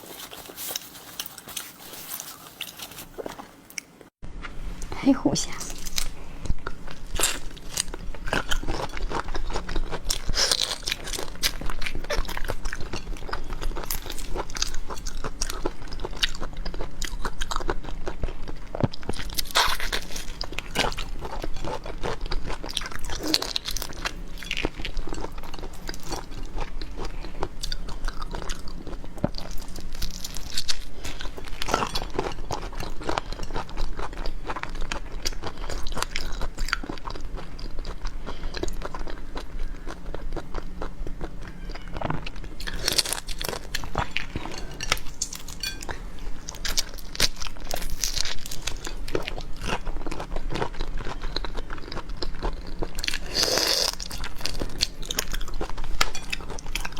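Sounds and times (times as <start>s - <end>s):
wet chewing and crunching: 0.0s - 4.2s, 5.6s - 56.9s
faint low hum: 0.0s - 56.9s.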